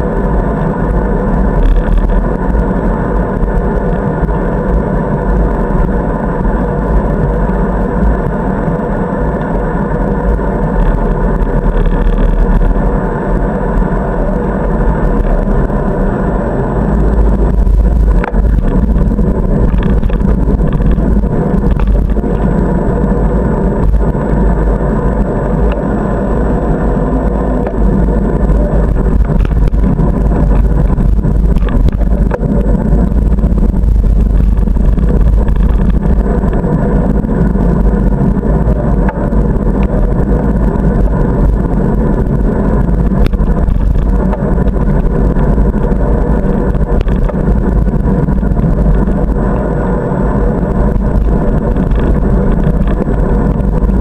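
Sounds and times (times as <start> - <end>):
bicycle tyres on pavement: 0.0 - 54.0
wind on microphone: 0.0 - 54.0.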